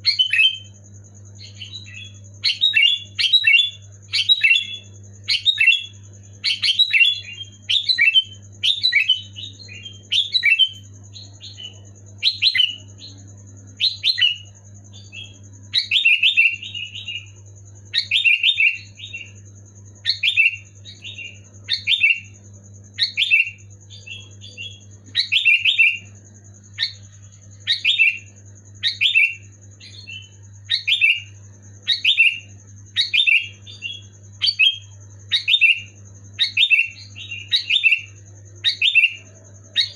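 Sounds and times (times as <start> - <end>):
bulbul singing: 0.0 - 39.9
steady low hum: 0.0 - 39.9.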